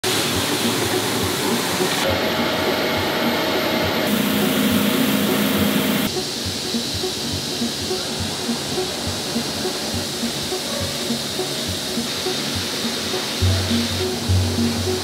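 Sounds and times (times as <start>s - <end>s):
grinder humming: 0.0s - 15.0s
low machine hum: 0.3s - 15.0s.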